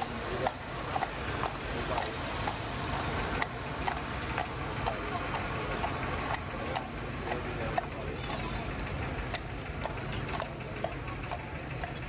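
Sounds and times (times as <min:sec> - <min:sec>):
crowd murmur: 0:00.0 - 0:12.0
traffic hum: 0:00.0 - 0:12.0.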